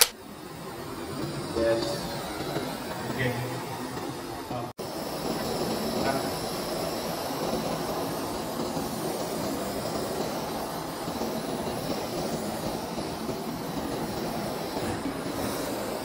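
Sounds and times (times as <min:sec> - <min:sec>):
blowtorch flame hissing: 0:00.0 - 0:16.0.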